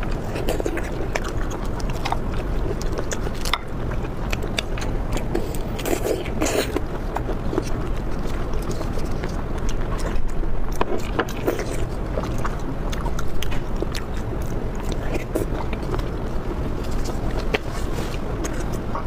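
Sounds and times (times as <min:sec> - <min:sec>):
low steady hum: 0:00.0 - 0:19.0
wet chewing and mouth smacks: 0:00.0 - 0:19.0.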